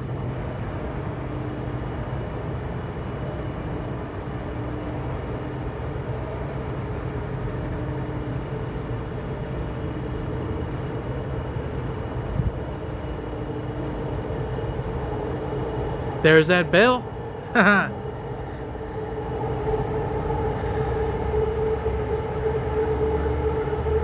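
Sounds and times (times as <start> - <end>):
diesel locomotive humming: 0.0 - 24.0.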